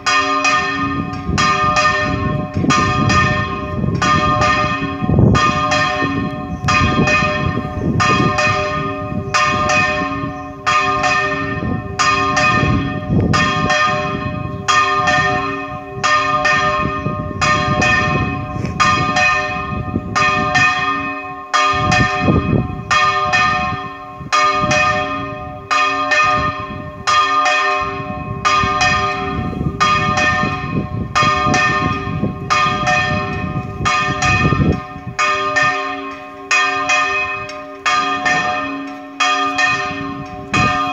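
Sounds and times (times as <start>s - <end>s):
church bell ringing fast: 0.0s - 40.9s.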